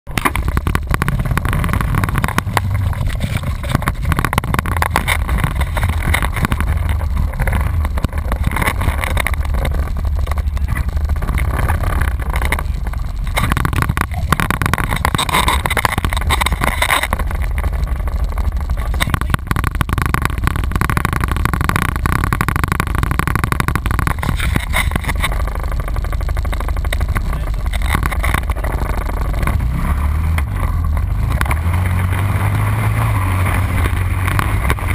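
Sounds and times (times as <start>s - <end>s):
atv engine running: 0.1s - 34.9s
tyres crunching on gravel: 0.1s - 34.9s.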